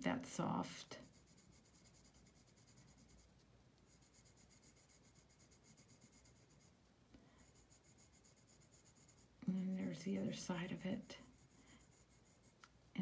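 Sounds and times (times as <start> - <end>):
pencil scratching on paper: 0.8 - 12.6.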